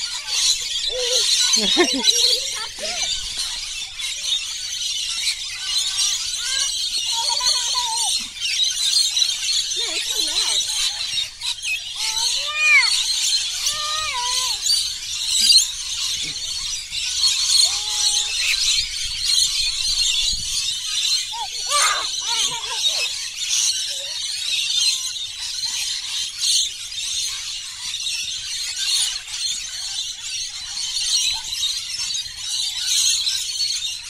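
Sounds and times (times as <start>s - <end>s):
lorikeets screeching and chattering: 0.0s - 34.0s.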